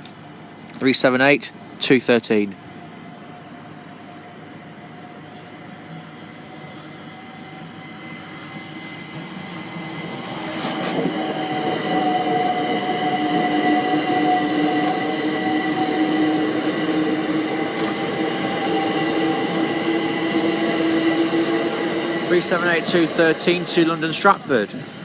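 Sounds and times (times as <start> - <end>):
electric train passing with whine: 2.6 - 25.0.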